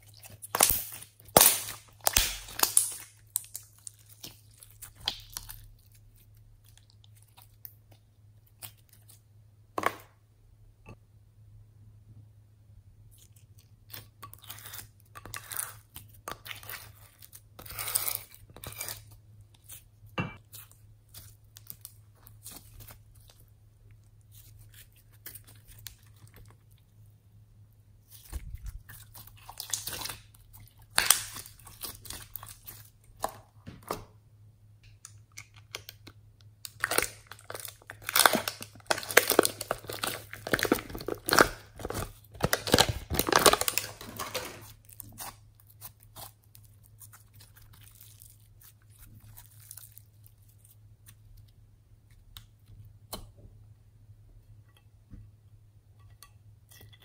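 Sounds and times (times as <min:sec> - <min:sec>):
sticky slime squelches: 0:00.0 - 0:09.3, 0:13.0 - 0:27.1, 0:27.7 - 0:34.1, 0:34.8 - 0:53.4.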